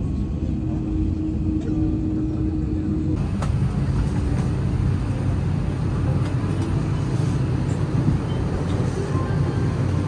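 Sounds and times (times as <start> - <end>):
cabin air system rumble: 0.0 - 10.0.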